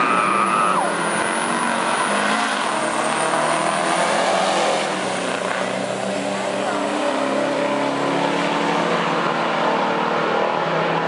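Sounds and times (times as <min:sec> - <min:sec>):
diesel truck engines running: 0:00.0 - 0:11.0.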